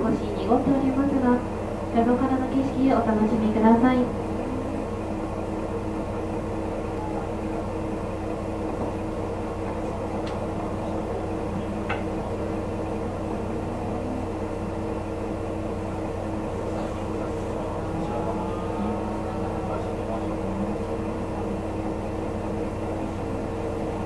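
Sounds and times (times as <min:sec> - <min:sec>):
diesel railcar engine idling: 0:00.0 - 0:24.0.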